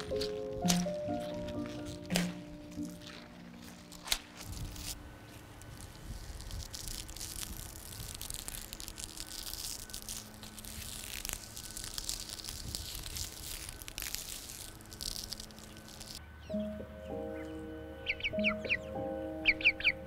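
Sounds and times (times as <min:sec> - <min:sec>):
fingers crackling dry flower heads: 0:00.0 - 0:16.2, 0:17.1 - 0:20.0.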